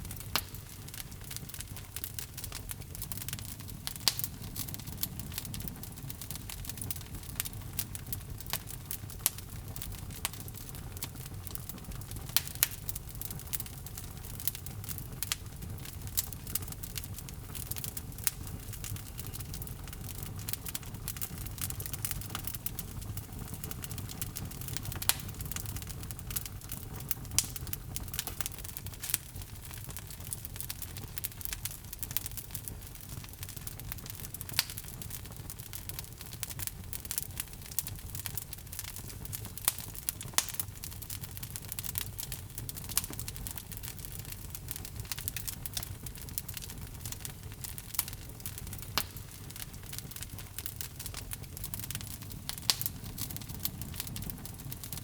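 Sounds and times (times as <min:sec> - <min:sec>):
logs burning crackling: 0:00.0 - 0:55.0.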